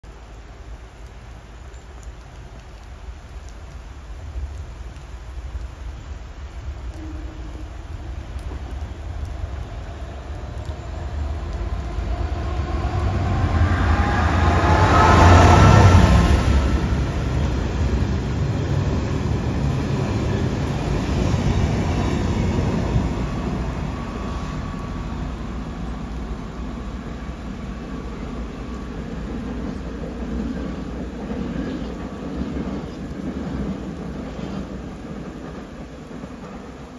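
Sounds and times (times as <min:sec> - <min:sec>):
diesel locomotive engine passing: 0:06.2 - 0:36.9.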